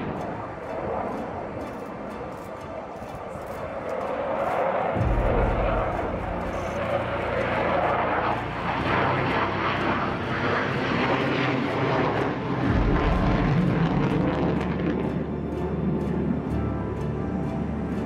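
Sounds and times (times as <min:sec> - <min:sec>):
fighter jet engine roar: 0:00.0 - 0:18.0.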